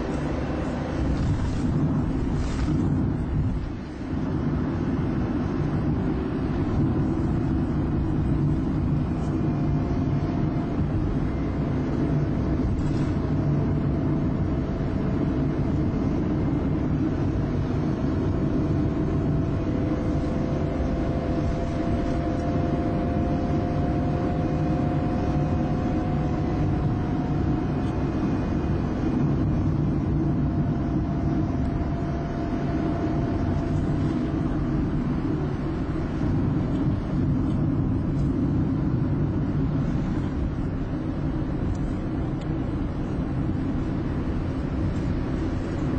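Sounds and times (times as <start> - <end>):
engine and tyre rumble: 0.0 - 45.9
faint rising whine: 0.0 - 45.9.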